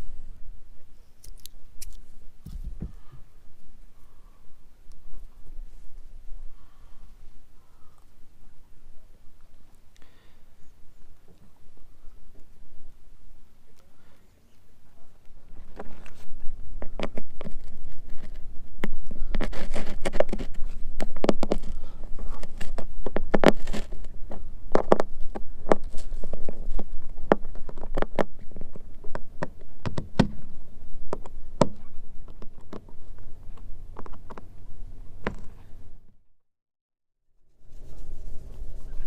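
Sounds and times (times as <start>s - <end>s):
low steady rumble: 0.0s - 36.3s.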